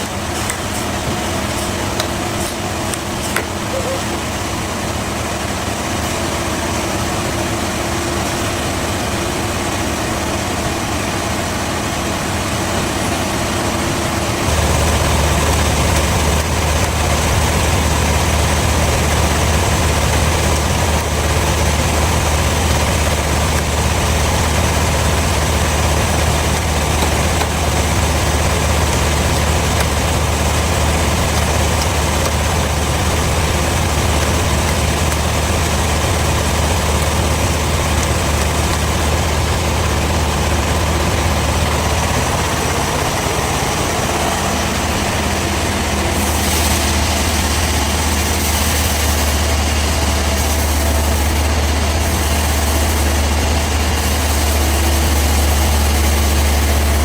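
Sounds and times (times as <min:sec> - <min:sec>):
bandsaw sawmill machinery humming: 0:00.0 - 0:57.0.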